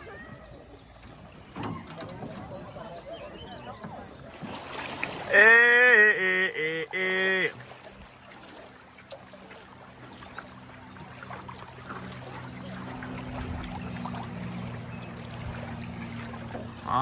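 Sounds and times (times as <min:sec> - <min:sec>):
river water lapping: 0:00.0 - 0:17.0.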